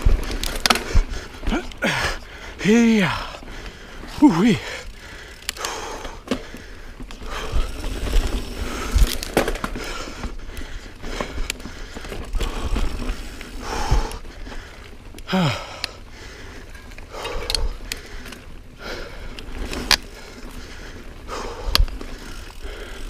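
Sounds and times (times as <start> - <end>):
bike knocking and rattling: 0.0 - 23.0
bike tyres rolling on dirt: 0.0 - 23.0.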